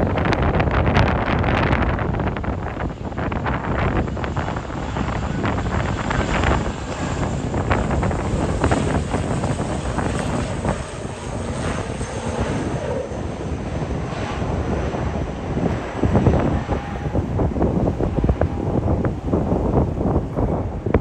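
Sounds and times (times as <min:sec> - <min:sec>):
turboprop engines running: 0:00.0 - 0:21.0
wind rumbling on microphone: 0:00.0 - 0:21.0.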